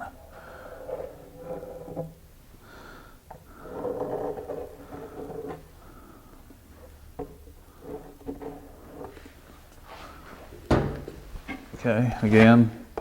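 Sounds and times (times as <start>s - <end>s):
wood scraping on wood: 0.0s - 2.2s, 3.4s - 13.0s.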